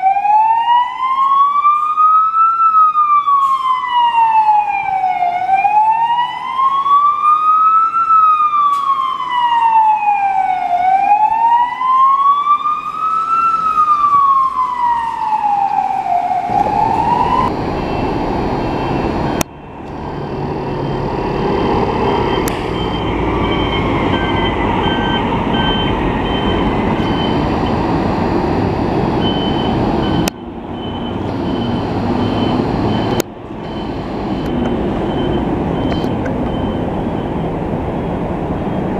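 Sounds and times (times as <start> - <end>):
engine and traffic rumble: 0.0 - 38.9
fire engine siren wailing: 0.0 - 38.9.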